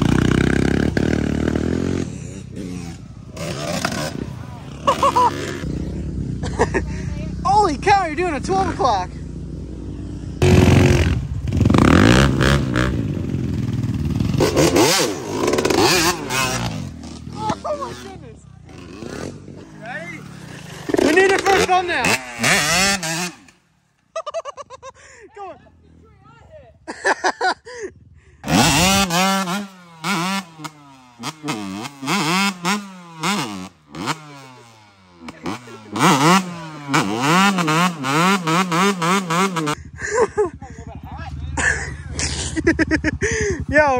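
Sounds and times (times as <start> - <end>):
dirt bike engine revving: 0.0 - 24.4, 28.4 - 40.6.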